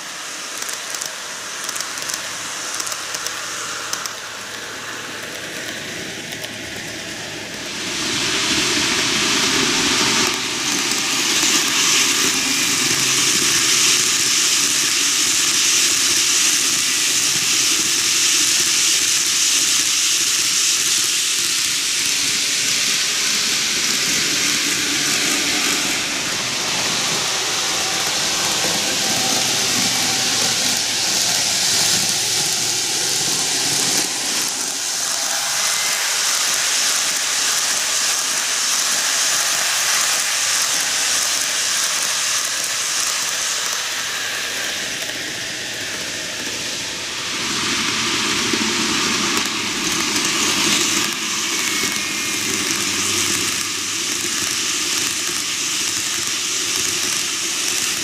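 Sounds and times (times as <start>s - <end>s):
model train wheels rattling on rails: 0.0s - 58.0s.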